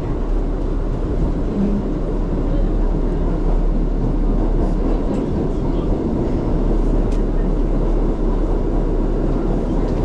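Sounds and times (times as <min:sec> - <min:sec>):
subway train rumbling in tunnel: 0:00.0 - 0:10.0.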